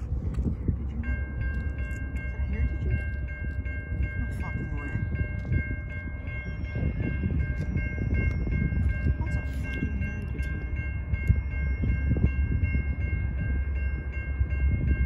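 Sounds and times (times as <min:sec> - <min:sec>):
crossing warning bell ringing: 0:00.0 - 0:15.0
steady low rumble: 0:00.0 - 0:15.0.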